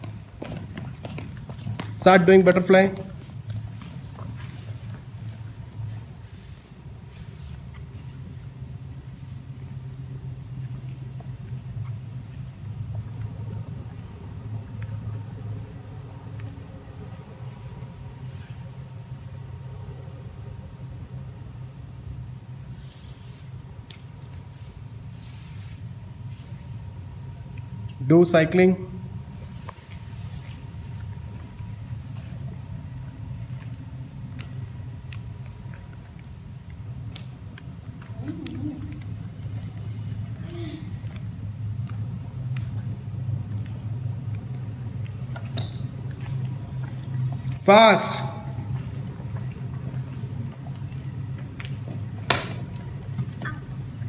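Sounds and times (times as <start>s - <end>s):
low hum: 0.0s - 54.0s
low room rumble: 0.0s - 54.0s.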